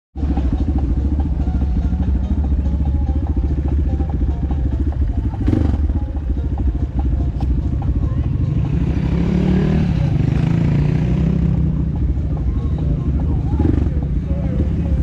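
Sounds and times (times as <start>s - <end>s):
motorcycle engine idling: 0.2s - 15.0s.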